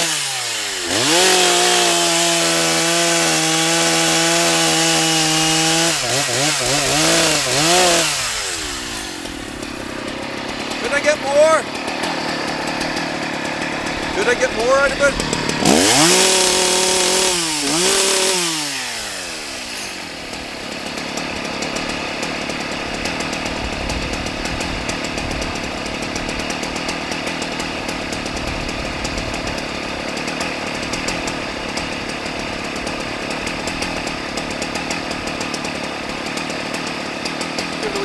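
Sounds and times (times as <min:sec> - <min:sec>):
chainsaw revving and idling: 0:00.0 - 0:38.0.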